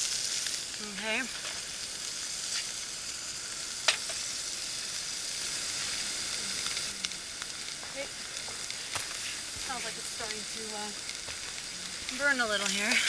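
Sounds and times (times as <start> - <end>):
oil sizzling in a pot: 0.0 - 13.0.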